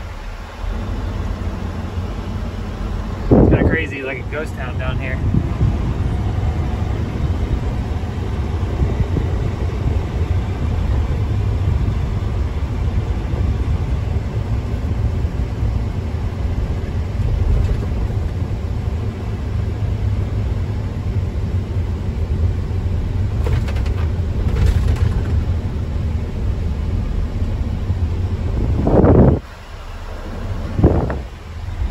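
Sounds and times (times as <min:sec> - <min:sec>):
truck diesel engine rumble: 0:00.0 - 0:31.9.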